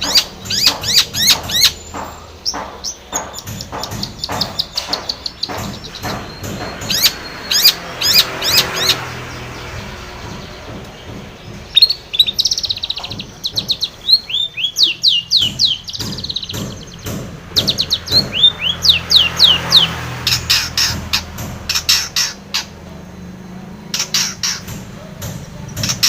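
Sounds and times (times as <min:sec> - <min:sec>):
bird singing trills and whistles: 0:00.0 - 0:26.0.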